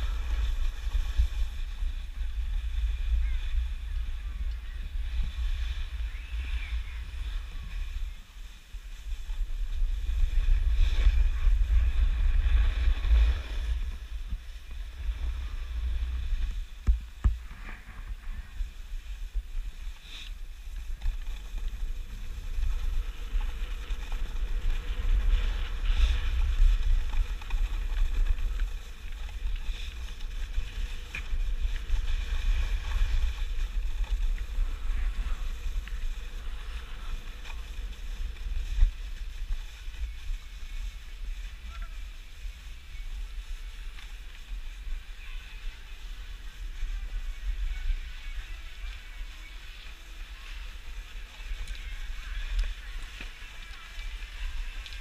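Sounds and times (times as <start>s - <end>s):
snowboard scraping on snow: 0.0s - 55.0s
wind buffeting microphone: 0.0s - 55.0s.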